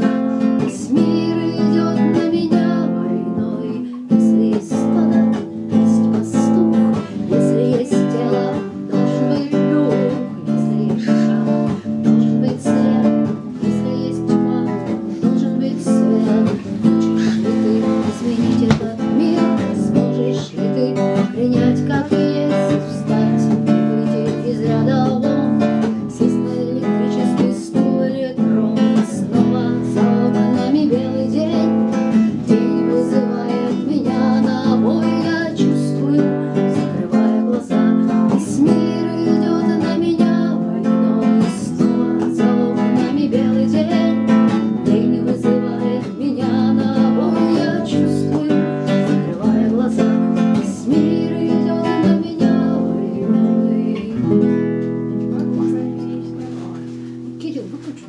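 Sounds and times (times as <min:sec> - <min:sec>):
classical guitar strummed: 0:00.0 - 0:58.0.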